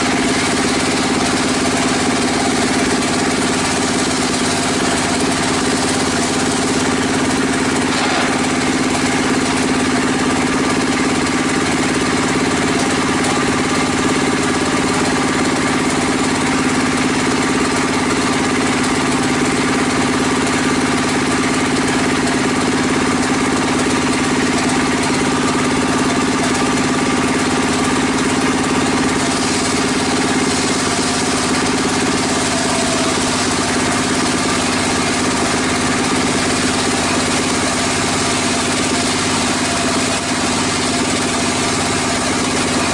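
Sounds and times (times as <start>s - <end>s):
circular saw blade cutting timber: 0.0s - 42.9s
engine hum: 0.0s - 42.9s.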